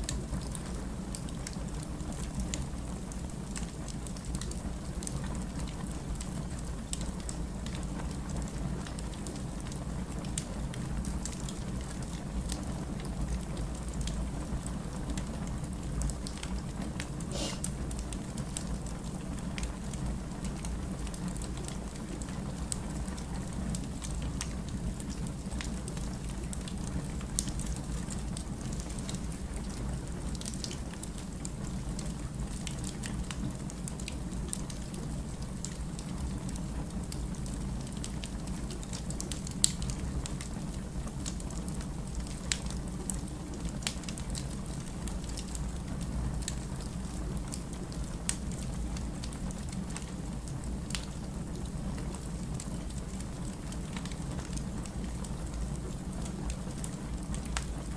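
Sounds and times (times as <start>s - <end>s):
firewood crackling and popping: 0.0s - 17.2s, 17.8s - 57.9s.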